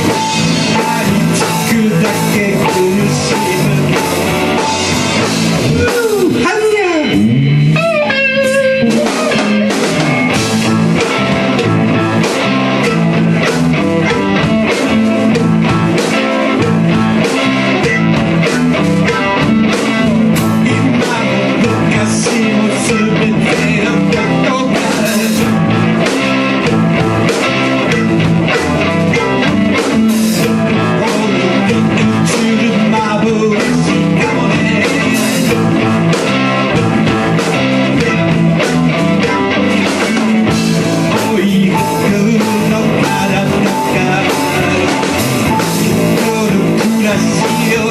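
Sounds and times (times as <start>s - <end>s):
rock song with guitar and drums: 0.0s - 47.9s.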